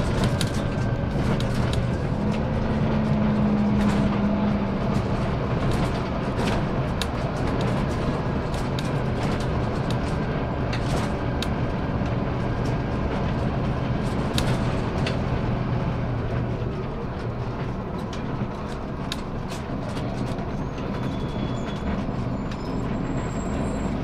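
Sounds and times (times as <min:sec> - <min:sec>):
interior clicks and rattles: 0:00.0 - 0:23.2
bus diesel engine humming: 0:00.0 - 0:24.0.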